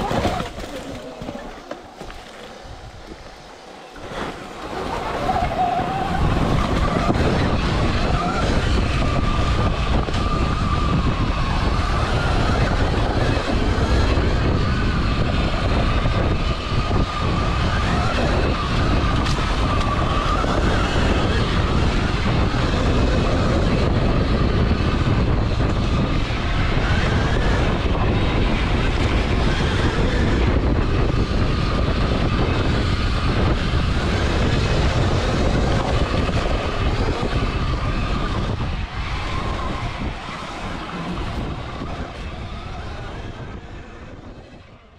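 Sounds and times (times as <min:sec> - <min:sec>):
electric motor whining: 0:00.0 - 0:44.7
wind buffeting microphone: 0:00.0 - 0:44.9.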